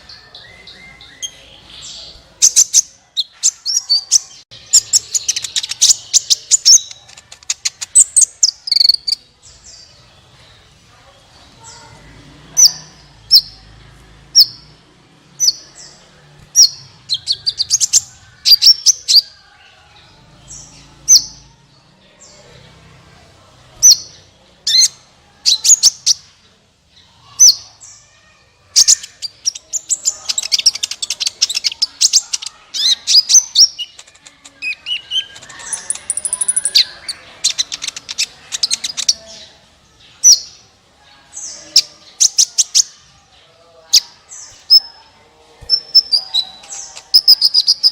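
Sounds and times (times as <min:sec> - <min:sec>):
sunbird singing: 0:00.0 - 0:10.8, 0:11.6 - 0:21.6, 0:27.0 - 0:47.9.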